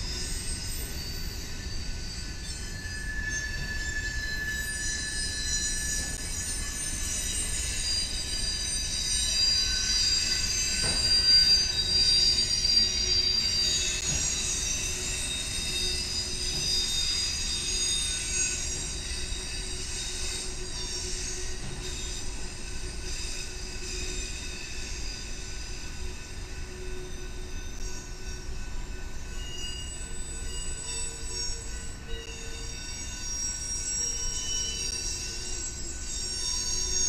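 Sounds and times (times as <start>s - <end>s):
low train rumble: 0.0s - 37.0s
train wheels squealing: 0.0s - 37.0s.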